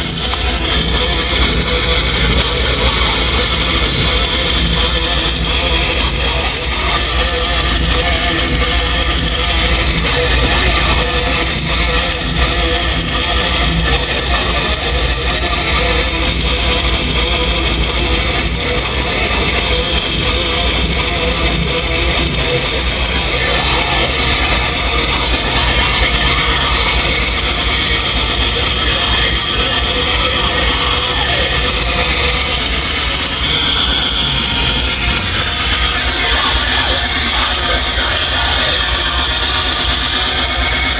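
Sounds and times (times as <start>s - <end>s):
guitar rock music: 0.0s - 40.9s.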